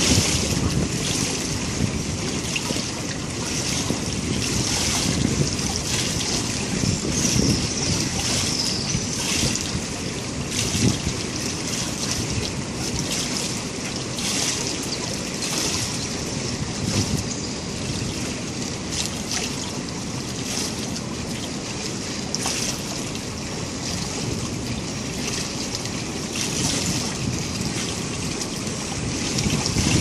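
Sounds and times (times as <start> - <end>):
pool water lapping and trickling: 0.0 - 30.0
wind buffeting microphone: 0.0 - 30.0.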